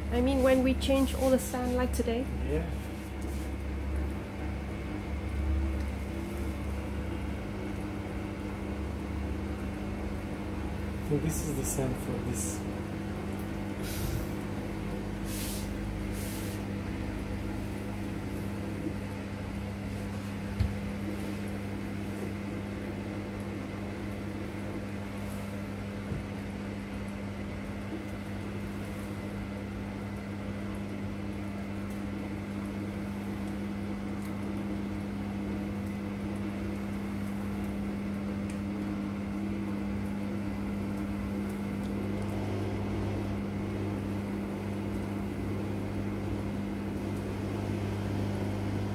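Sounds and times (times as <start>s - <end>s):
litter box motor hum: 0.0s - 48.9s.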